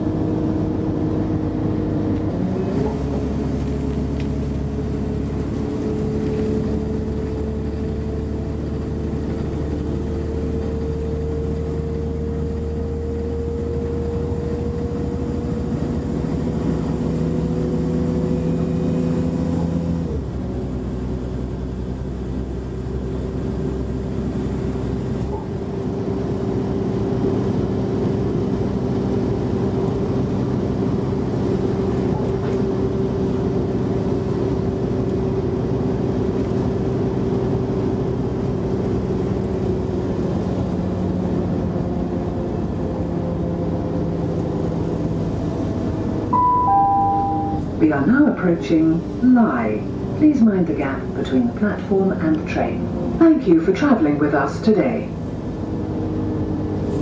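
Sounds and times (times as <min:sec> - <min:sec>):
train diesel engine drone and whine: 0:00.0 - 0:57.0
train rumbling on rails: 0:00.0 - 0:57.0.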